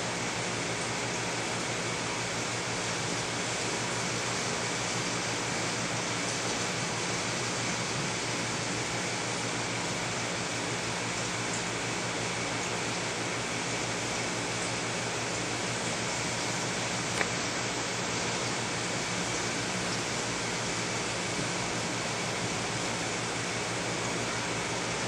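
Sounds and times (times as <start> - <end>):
faint pump hum: 0.0 - 25.0.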